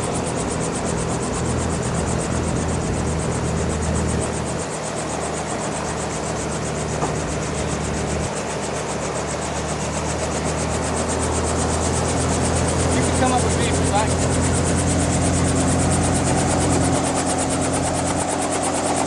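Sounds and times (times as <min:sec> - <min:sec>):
helicopter engine hum: 0:00.0 - 0:19.0
helicopter rotor beating: 0:00.0 - 0:19.0.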